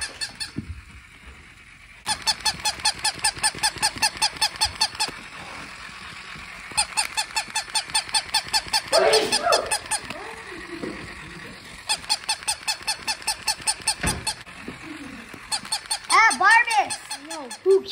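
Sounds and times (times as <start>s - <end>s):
toy puppy yapping: 0.0s - 0.6s, 2.0s - 17.9s.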